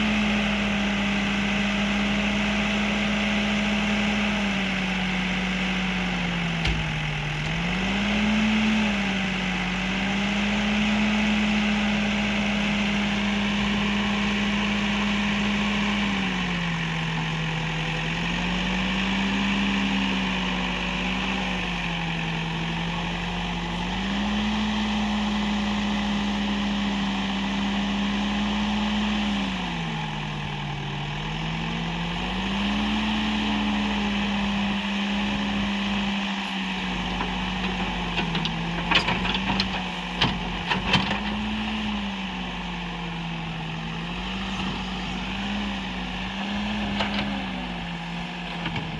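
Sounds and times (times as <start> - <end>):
backhoe diesel engine running: 0.0 - 48.9.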